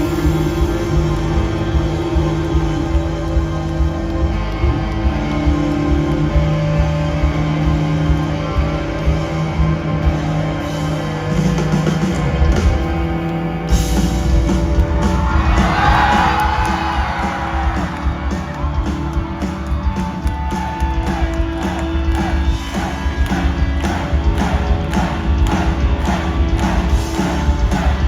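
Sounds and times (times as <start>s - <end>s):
rock band music with singing: 0.0s - 28.0s.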